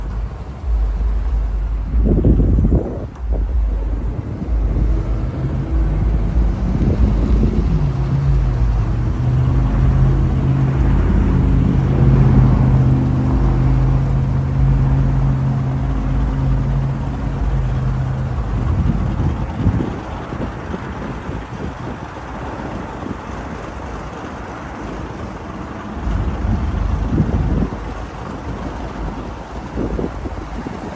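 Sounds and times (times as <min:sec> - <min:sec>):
car engine droning: 0:00.0 - 0:30.9
wind on microphone: 0:00.0 - 0:30.9.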